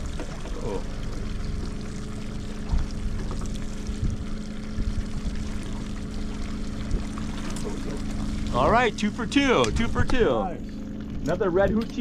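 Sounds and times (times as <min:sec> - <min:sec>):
outboard motor running: 0:00.0 - 0:12.0
water lapping at hull: 0:00.0 - 0:12.0.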